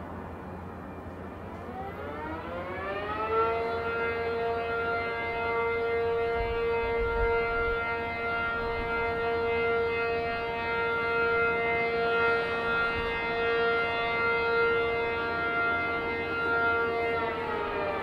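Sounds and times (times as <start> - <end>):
steady warning siren: 0.0 - 18.0.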